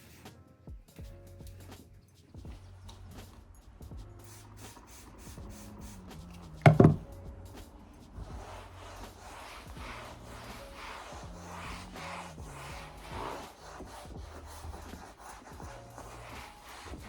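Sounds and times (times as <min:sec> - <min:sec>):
faint rhythmic rubbing: 0:00.0 - 0:17.0.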